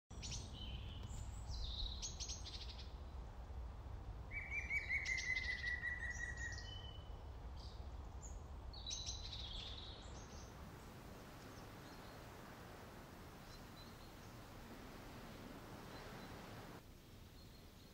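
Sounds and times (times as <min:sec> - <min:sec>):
songbirds singing and chirping: 0:00.1 - 0:03.3, 0:04.2 - 0:17.9.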